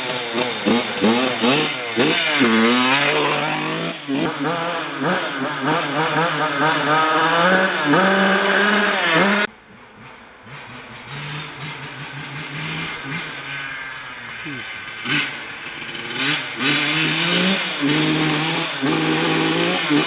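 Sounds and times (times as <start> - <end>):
dirt bike engine revving: 0.0 - 20.0
engine idling: 0.0 - 20.0.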